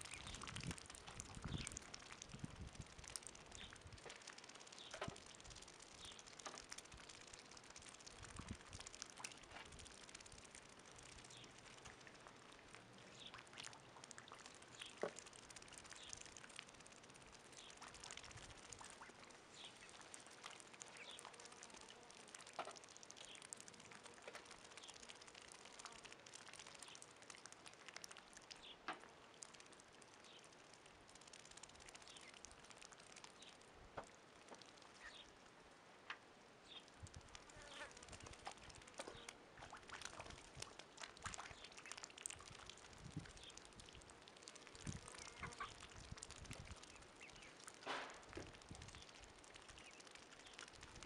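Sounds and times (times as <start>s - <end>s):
ducks dabbling in a puddle: 0.0s - 51.0s.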